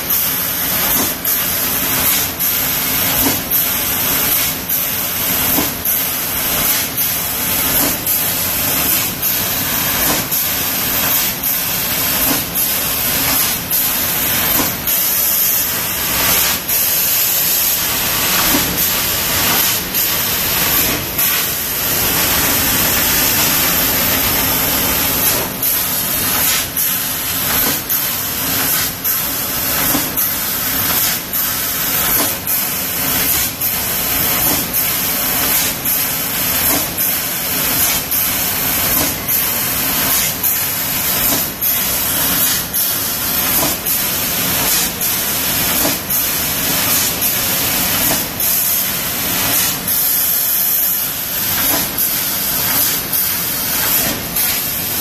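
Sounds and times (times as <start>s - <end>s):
laser cutter gas jet hissing: 0.0s - 55.0s.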